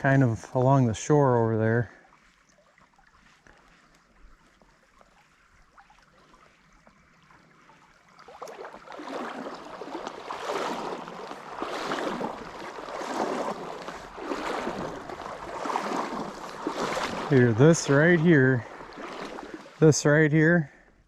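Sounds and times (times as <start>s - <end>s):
faint stream: 0.0s - 21.0s
wading through shallow water: 0.0s - 21.0s.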